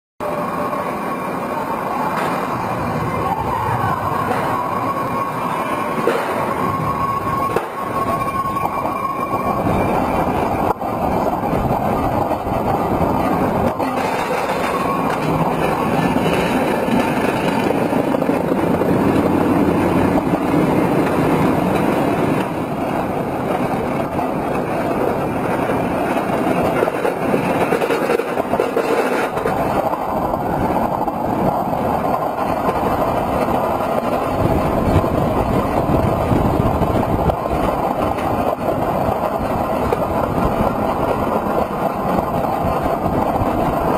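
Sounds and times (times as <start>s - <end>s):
roller coaster rumbling on track: 0.2s - 43.9s
rush of wind: 0.2s - 43.9s.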